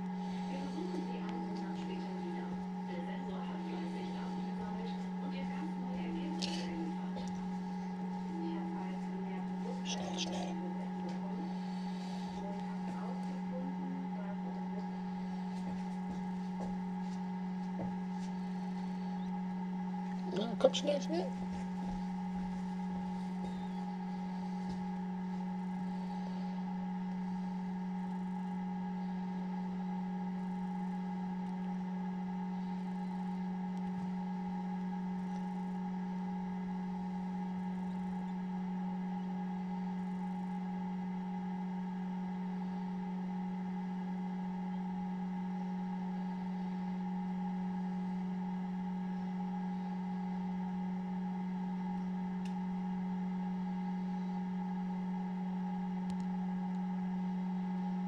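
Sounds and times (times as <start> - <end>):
incubator fan humming: 0.0 - 58.0.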